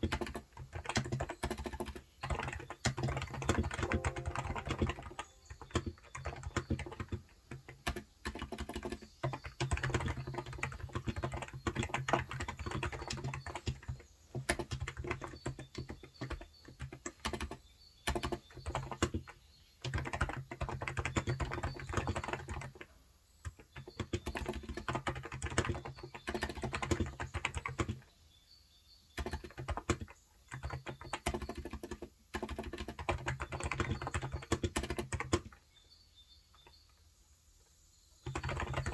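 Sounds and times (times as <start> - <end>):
soft keyboard typing: 0.0 - 28.2, 29.0 - 35.7, 38.2 - 38.9.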